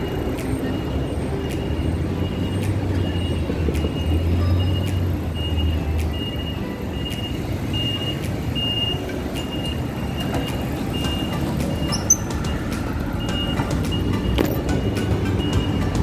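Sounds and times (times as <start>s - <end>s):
high electronic beep: 0.0s - 16.0s
street traffic rumbling: 0.0s - 16.0s.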